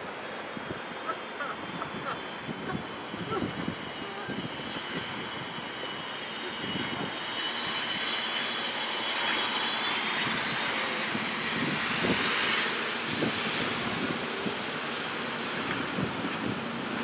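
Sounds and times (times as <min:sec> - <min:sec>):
jet airliner rushing noise: 0:00.0 - 0:17.0
jet engines whining: 0:00.0 - 0:17.0.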